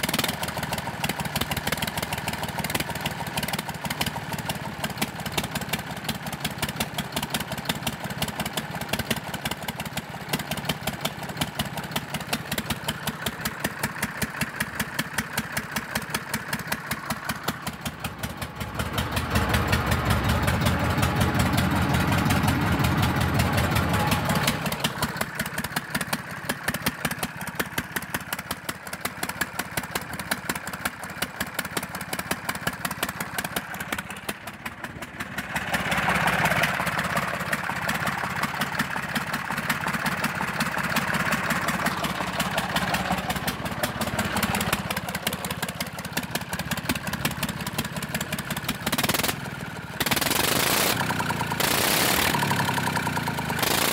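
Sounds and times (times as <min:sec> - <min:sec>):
diesel tractor engine idling: 0:00.0 - 0:53.9.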